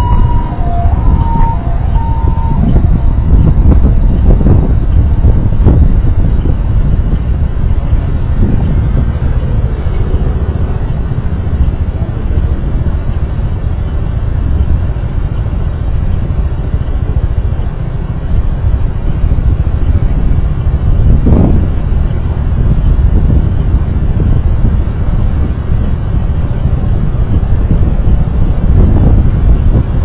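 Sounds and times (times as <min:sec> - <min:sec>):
vehicle rumble: 0:00.0 - 0:30.0
wind and road noise: 0:00.0 - 0:30.0.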